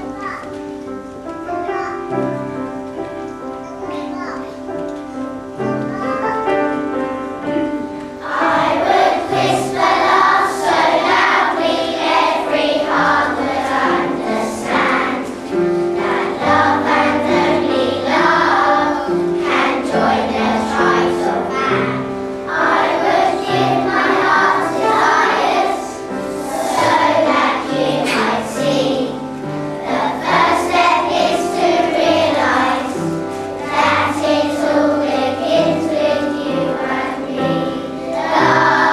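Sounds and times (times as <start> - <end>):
instrumental accompaniment: 0.0 - 38.9
children singing in unison: 7.7 - 38.9.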